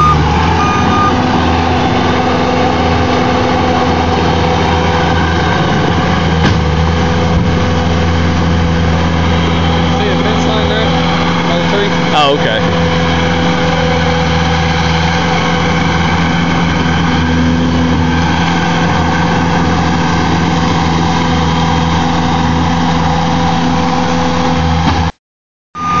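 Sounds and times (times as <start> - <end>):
diesel engine running: 0.0 - 25.2, 25.8 - 26.0.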